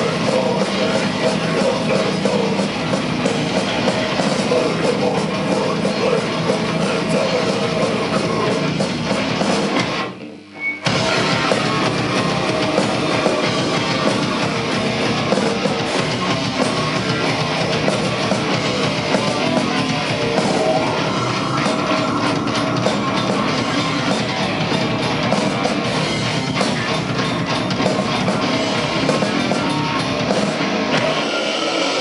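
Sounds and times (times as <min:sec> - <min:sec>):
pounding drum kit: 0:00.0 - 0:10.2, 0:10.8 - 0:32.0
distorted electric guitars: 0:00.0 - 0:32.0.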